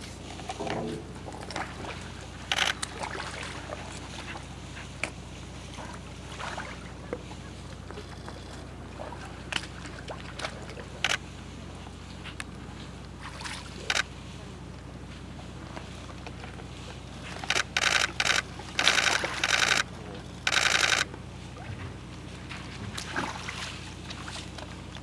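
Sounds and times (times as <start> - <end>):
steady low hum: 0.0 - 25.0
water lapping against boat hull: 0.0 - 25.0.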